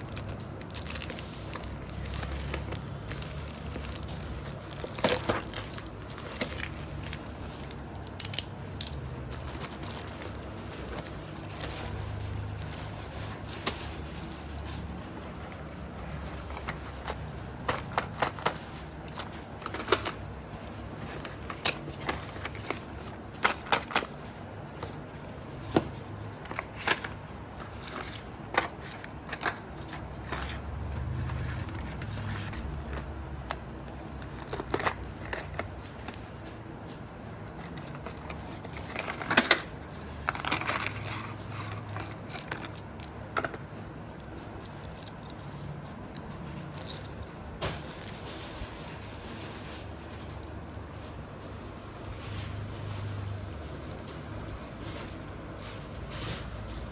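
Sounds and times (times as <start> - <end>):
pencils and packaging clicking: 0.0 - 56.9.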